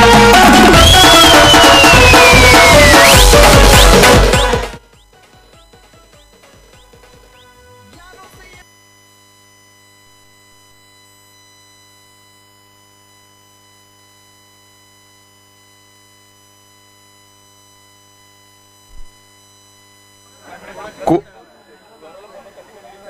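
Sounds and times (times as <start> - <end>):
buzzy electrical hum: 1.7 - 23.0.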